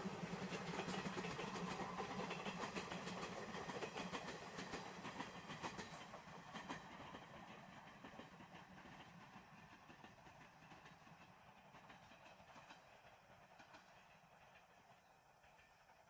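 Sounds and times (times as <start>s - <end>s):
train wheels clicking over rail joints: 0.0s - 16.0s.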